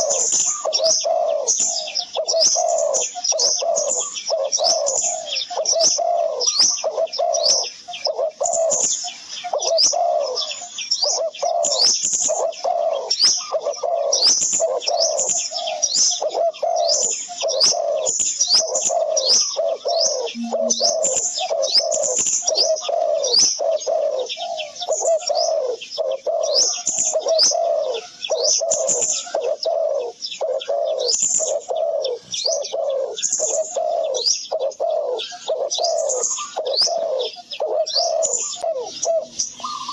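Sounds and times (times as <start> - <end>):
birds calling: 0.0 - 39.9.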